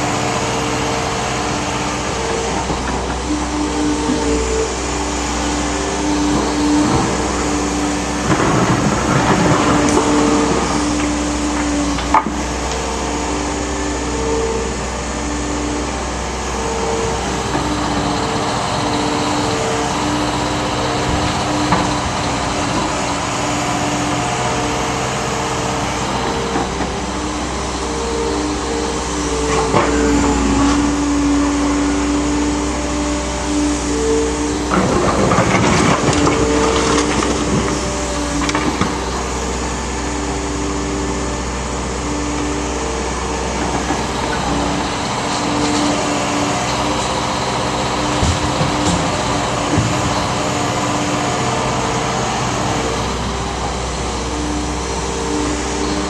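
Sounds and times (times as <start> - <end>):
excavator engine rumble with whine: 0.0 - 56.0.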